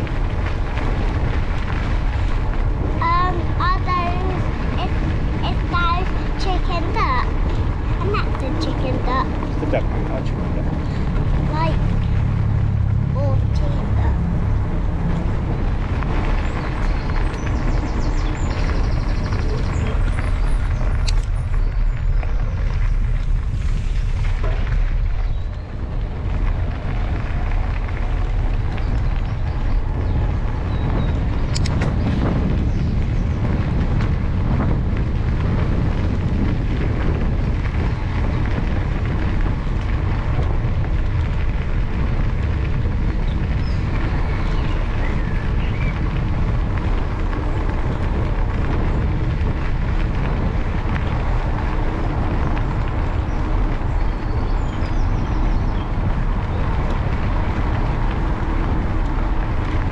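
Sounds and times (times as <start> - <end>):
bike rolling noise: 0.0 - 59.9
wind buffeting microphone: 0.0 - 59.9.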